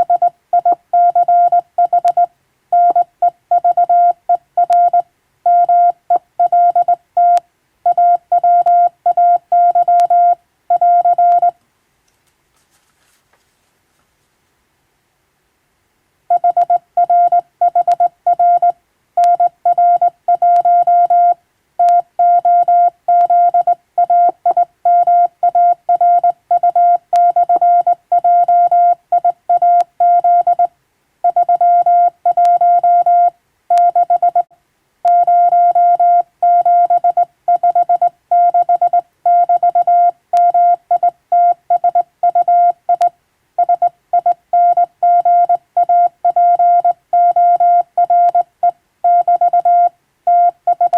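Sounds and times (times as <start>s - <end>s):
morse code tone: 0.0s - 11.6s, 16.3s - 30.7s, 31.3s - 34.5s, 35.1s - 48.5s, 49.1s - 50.9s.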